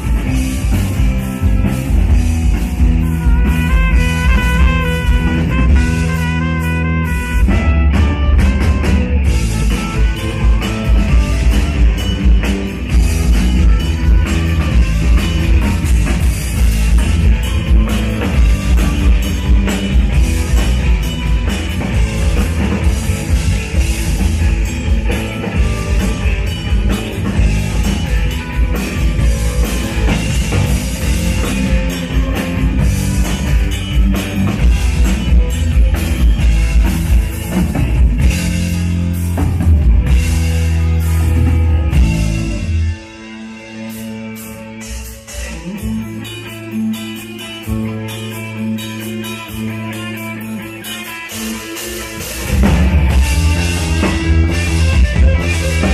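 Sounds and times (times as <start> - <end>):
drum kit beat: 0.0 - 43.0, 44.2 - 55.9
electric bass: 0.0 - 55.9
live rock band playing: 0.0 - 55.9.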